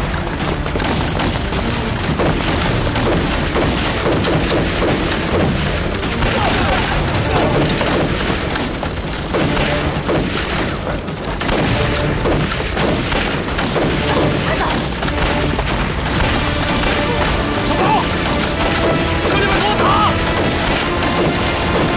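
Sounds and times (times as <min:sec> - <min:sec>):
dramatic music score: 0:00.0 - 0:21.9
guns firing: 0:00.0 - 0:21.9.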